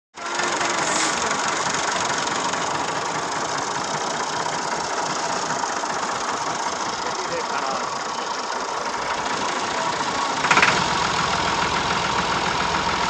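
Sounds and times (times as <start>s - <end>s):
tractor diesel engines running: 0.2s - 13.0s.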